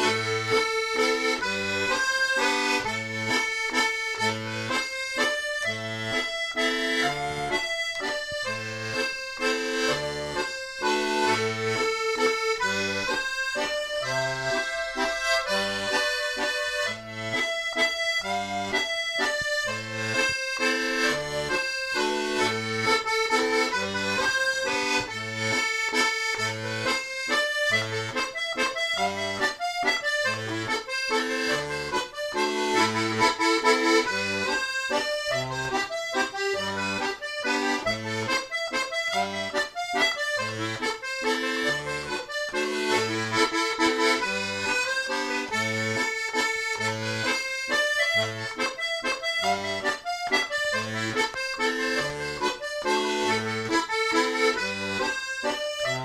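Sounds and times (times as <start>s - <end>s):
button accordion playing a waltz: 0.0s - 56.0s.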